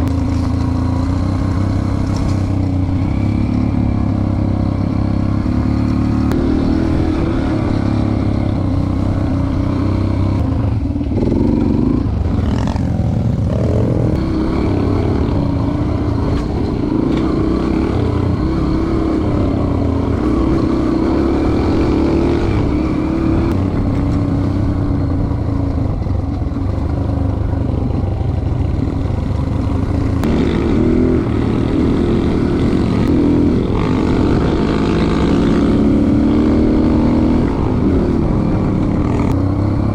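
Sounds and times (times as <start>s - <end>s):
dirt bike engine revving: 0.0s - 25.0s, 28.7s - 39.9s.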